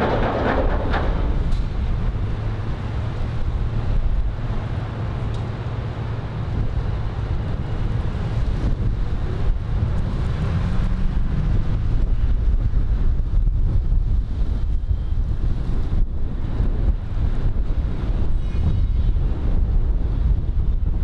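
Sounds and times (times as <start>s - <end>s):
street traffic: 0.0s - 21.0s
wind buffeting microphone: 0.0s - 21.0s.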